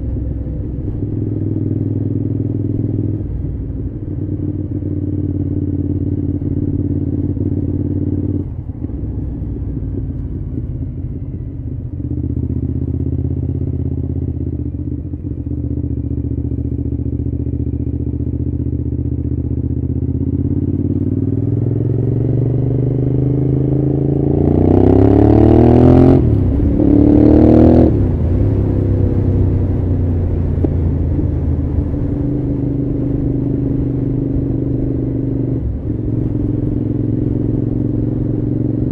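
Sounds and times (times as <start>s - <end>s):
motorcycle engine revving and shifting: 0.0s - 11.0s, 12.0s - 38.9s.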